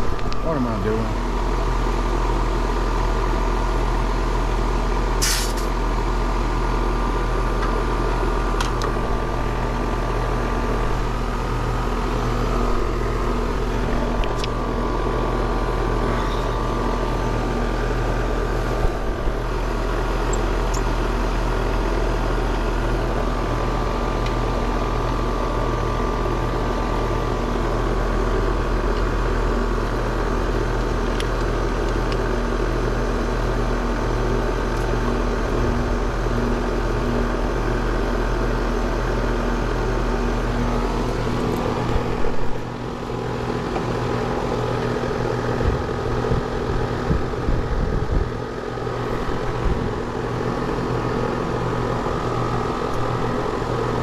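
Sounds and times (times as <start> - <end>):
heat pump unit humming: 0.0 - 54.0.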